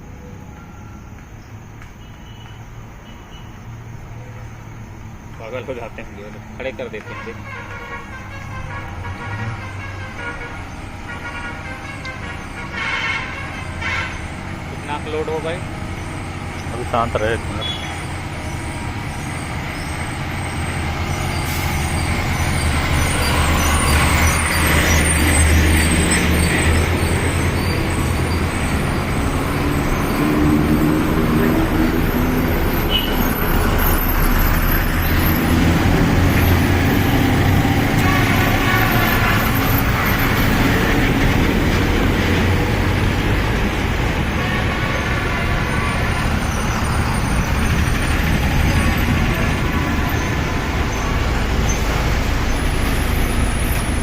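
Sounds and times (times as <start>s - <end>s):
road noise: 0.0s - 54.0s
heavy truck engine rumbling: 3.6s - 54.0s.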